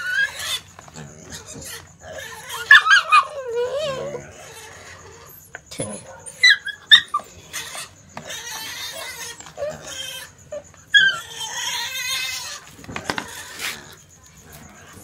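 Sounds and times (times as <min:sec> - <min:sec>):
pig squealing: 0:00.0 - 0:15.0.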